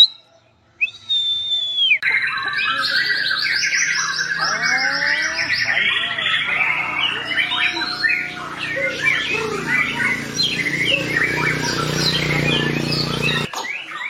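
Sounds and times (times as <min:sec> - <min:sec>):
songbird singing whistles: 0:00.0 - 0:14.0.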